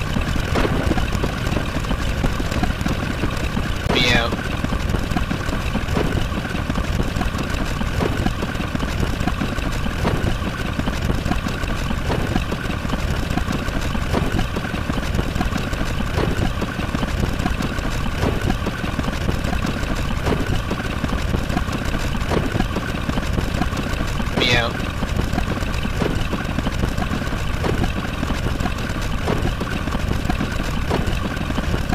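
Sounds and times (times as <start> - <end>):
engine-like rumbling drone: 0.0 - 31.9.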